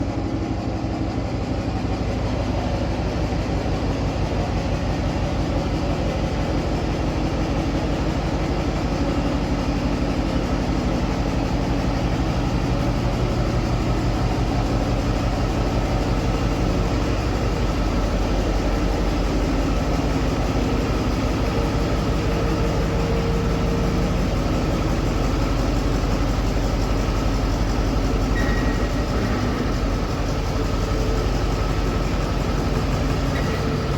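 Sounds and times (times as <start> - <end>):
large engine throbbing: 0.0 - 33.9.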